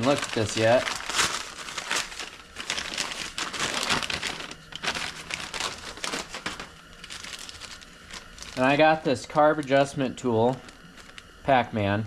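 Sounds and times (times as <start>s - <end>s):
packaging crinkling and rustling: 0.0s - 11.3s.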